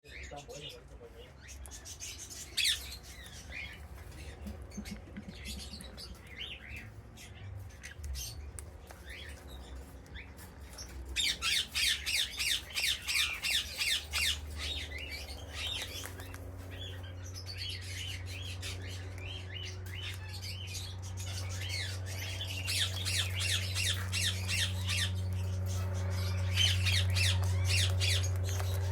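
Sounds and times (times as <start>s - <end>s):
birds squawking: 0.0s - 28.9s
low steady hum: 0.1s - 28.9s.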